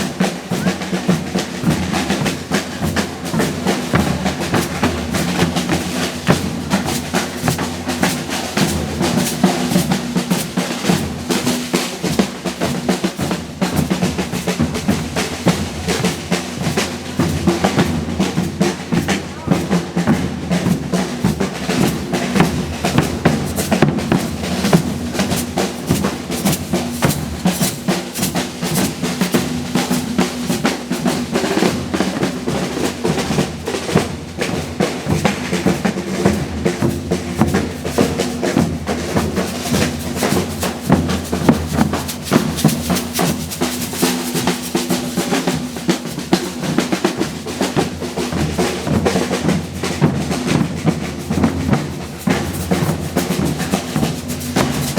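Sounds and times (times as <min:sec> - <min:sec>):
bass drums and snares: 0:00.0 - 0:54.9
percussion group drumming: 0:00.0 - 0:54.9.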